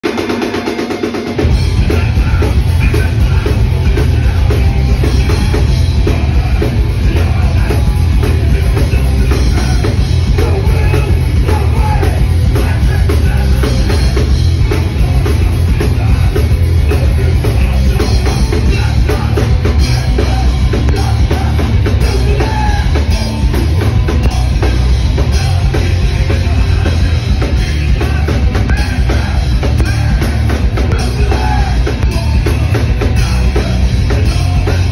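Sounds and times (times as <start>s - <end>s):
punk band playing live: 0.0s - 34.9s
person singing: 1.4s - 34.9s.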